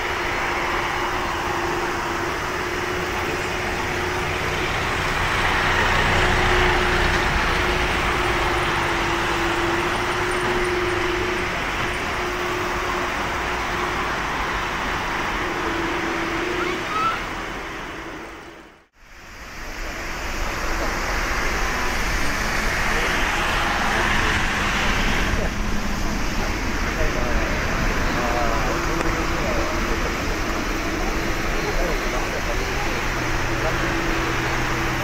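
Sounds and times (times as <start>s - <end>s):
jet engines roaring at takeoff: 0.0s - 35.0s.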